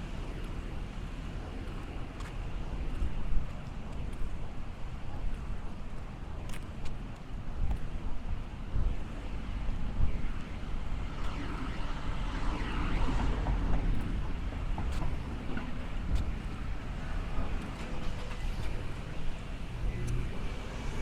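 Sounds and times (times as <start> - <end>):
outdoor noise: 0.0 - 21.0
wind rumbling on microphone: 0.0 - 21.0.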